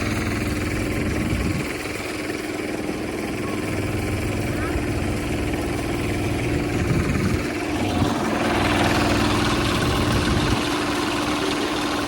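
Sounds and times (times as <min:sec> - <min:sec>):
hand tractor engine running: 0:00.0 - 0:12.0.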